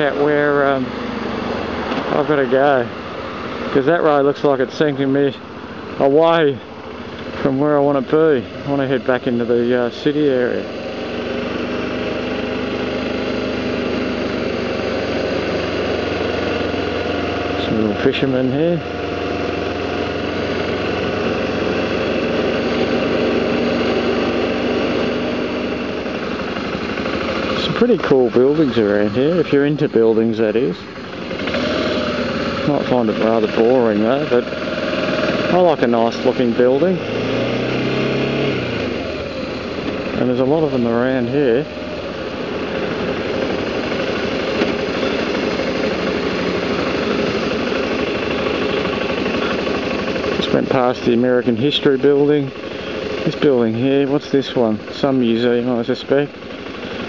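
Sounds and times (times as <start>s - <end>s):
wind and road noise: 0.0s - 54.2s
motorcycle engine running: 0.0s - 57.0s.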